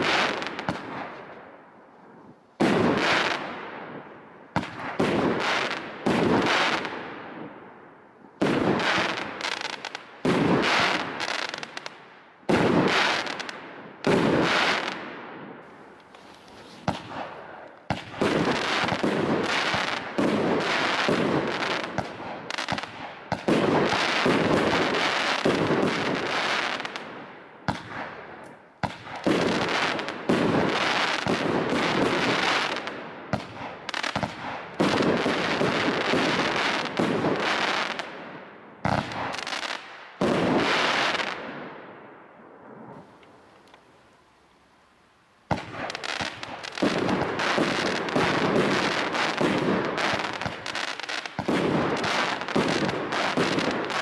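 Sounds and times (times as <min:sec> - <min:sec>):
firework cakes firing: 0:00.0 - 0:01.5, 0:02.6 - 0:07.6, 0:08.4 - 0:41.9, 0:45.5 - 0:54.0.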